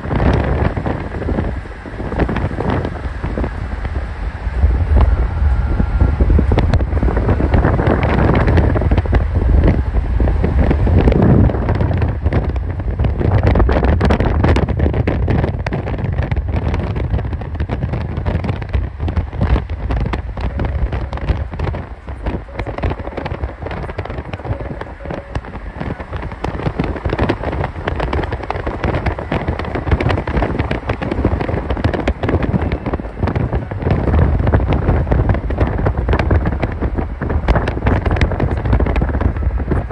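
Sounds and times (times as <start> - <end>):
car engine and road rumble: 0.0 - 39.9
dense crackling: 0.0 - 39.9
wind rush: 0.0 - 39.9.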